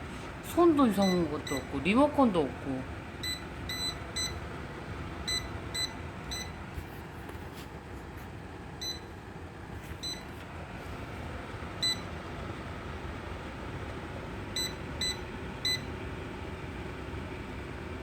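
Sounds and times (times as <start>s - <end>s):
fan running noise: 0.0s - 18.0s.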